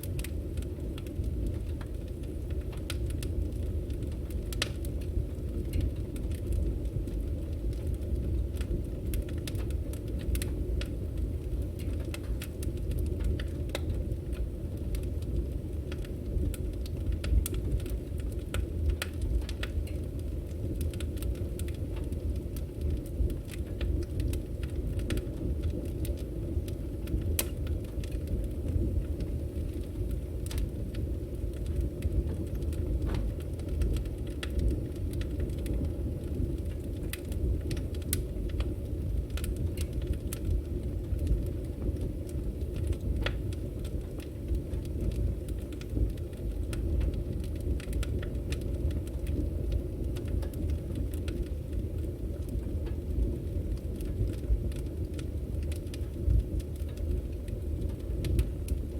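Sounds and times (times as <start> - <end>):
firewood crackling and popping: 0.0 - 58.9
low rumble of fire: 0.0 - 58.9.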